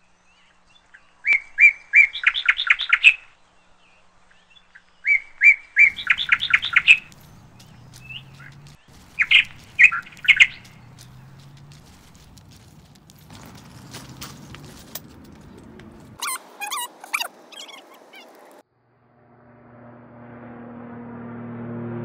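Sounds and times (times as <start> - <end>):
songbird singing: 0.0 - 18.6.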